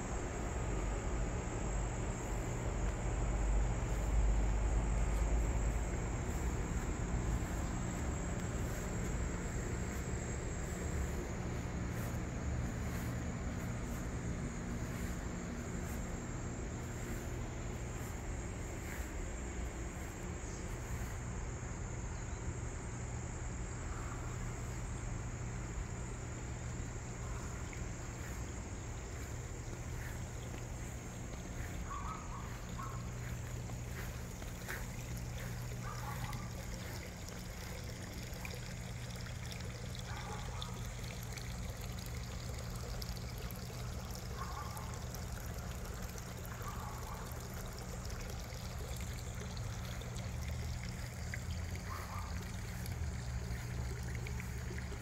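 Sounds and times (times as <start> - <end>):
crickets chorus: 0.0 - 55.0
insects trilling: 0.0 - 55.0.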